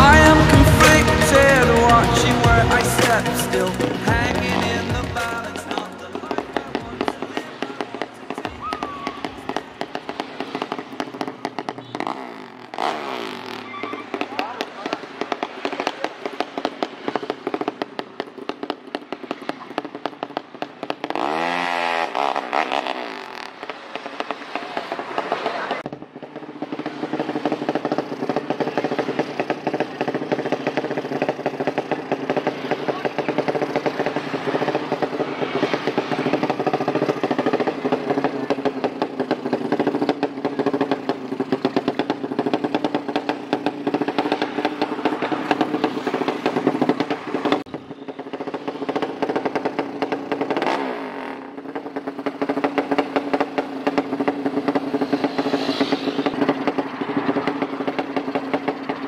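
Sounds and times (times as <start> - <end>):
motorcycle engine revving hard: 0.0 - 59.0.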